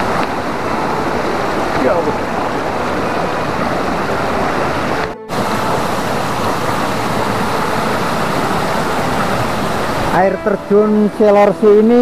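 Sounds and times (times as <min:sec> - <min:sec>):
stream cascading over rocks: 0:00.0 - 0:12.0
waterfall rushing: 0:00.0 - 0:12.0.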